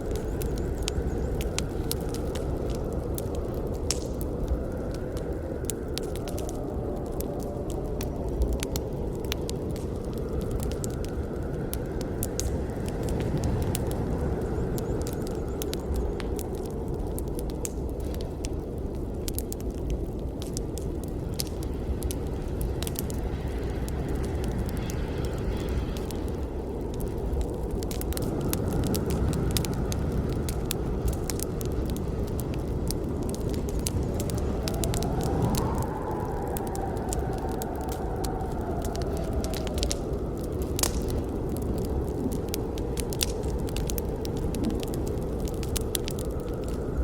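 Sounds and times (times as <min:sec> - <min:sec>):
burning wood crackling and popping: 0:00.0 - 0:47.0
low rumble of flames: 0:00.0 - 0:47.0.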